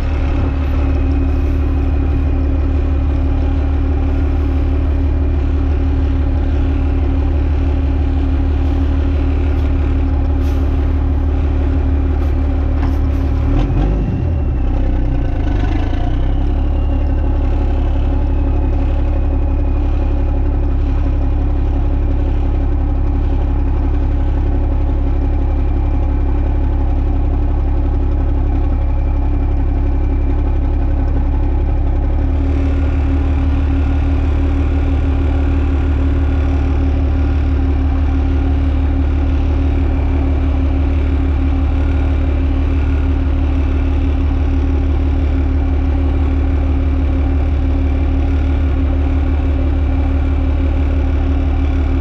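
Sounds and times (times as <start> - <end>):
diesel truck engine idling: 0.0 - 52.0.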